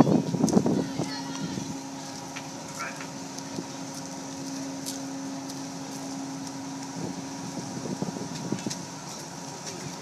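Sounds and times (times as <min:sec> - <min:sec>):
ship machinery hum: 0:00.0 - 0:10.0.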